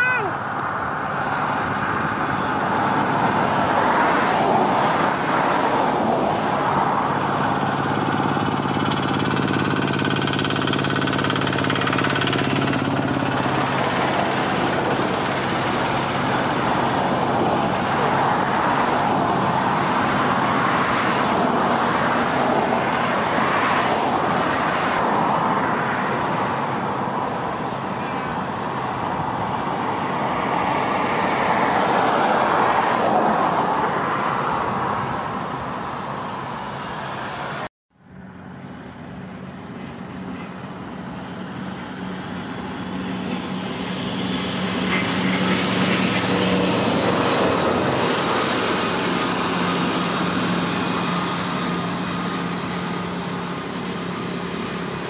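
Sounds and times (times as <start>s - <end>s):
heavy diesel machinery running: 0.0s - 31.3s, 34.6s - 55.0s
deeper engine hum: 0.0s - 32.4s, 37.9s - 55.0s.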